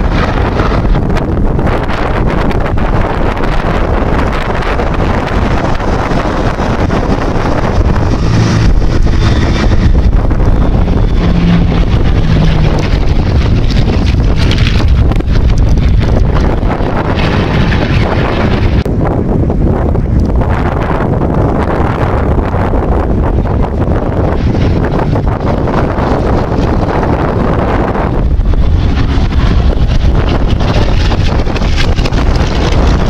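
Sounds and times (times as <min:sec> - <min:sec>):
propeller plane engine droning: 0:00.0 - 0:33.0
wind buffeting microphone: 0:00.0 - 0:33.0.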